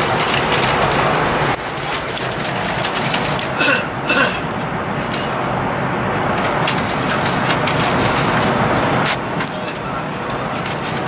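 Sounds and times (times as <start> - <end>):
train cabin rushing noise: 0.0 - 11.0.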